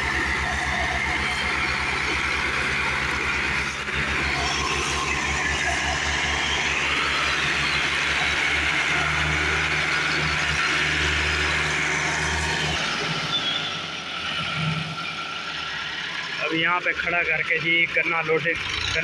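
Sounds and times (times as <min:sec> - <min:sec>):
diesel tractor engines labouring: 0:00.0 - 0:19.0.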